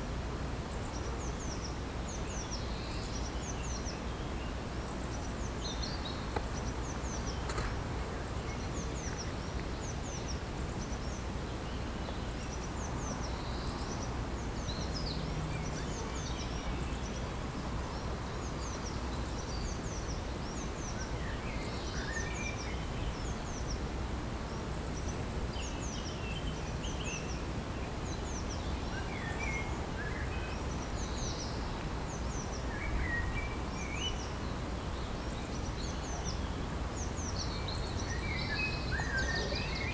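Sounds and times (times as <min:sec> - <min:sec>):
lower chirped bird phrases: 0:00.6 - 0:39.9.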